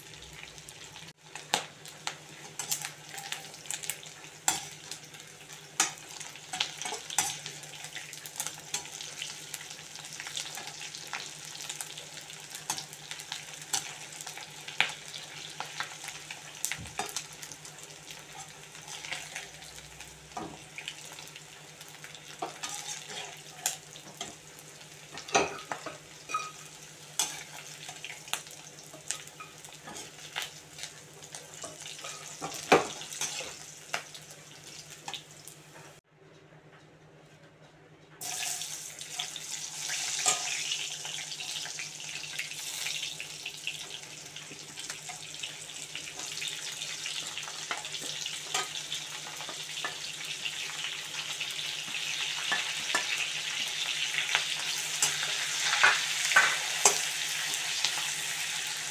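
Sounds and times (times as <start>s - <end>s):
chicken sizzling in oil: 0.0s - 36.0s, 38.2s - 58.9s.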